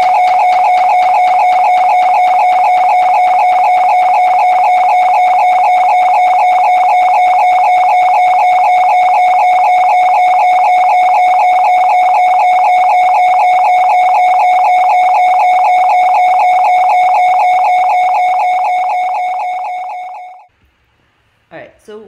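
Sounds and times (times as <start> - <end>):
pulsing droning tone: 0.0 - 20.5.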